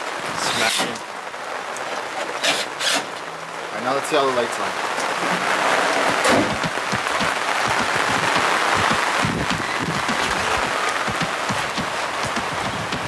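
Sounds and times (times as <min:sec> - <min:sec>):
heavy rain on tent canopy: 0:00.0 - 0:13.0.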